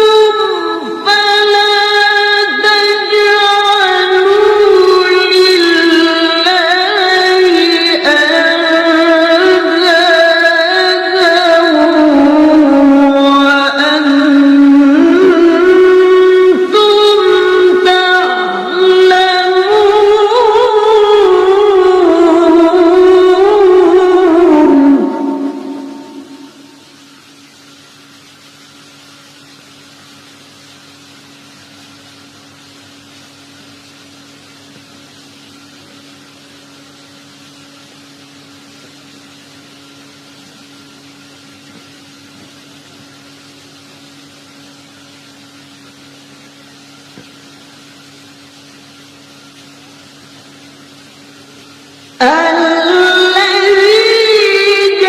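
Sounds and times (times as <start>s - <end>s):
even hiss: 0.0s - 55.0s
steady hum: 0.0s - 55.0s.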